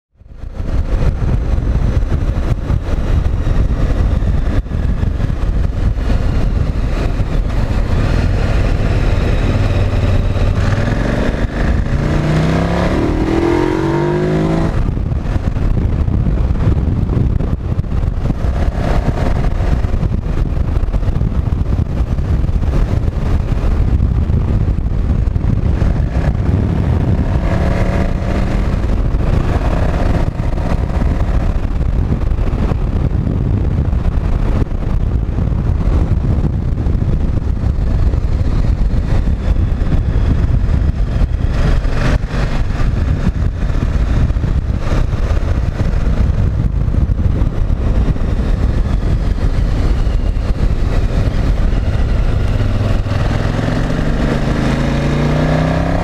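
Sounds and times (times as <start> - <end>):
road noise rush: 0.1 - 56.0
motorcycle engine revving: 0.2 - 56.0.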